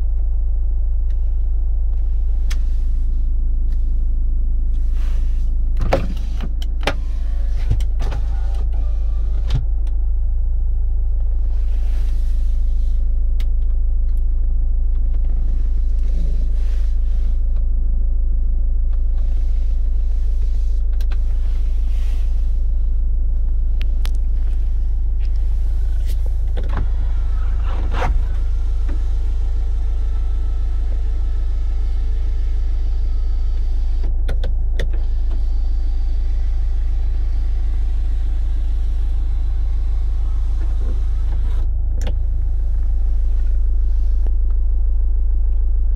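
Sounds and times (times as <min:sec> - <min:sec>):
car engine idling: 0:00.0 - 0:45.9
sunroof motor whine: 0:00.0 - 0:45.9.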